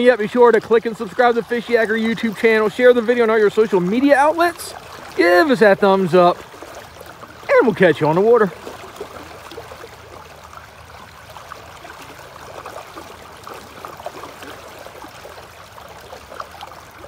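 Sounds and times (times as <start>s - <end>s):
fast river current gurgling: 0.0s - 17.0s
small water splashes: 0.0s - 17.0s.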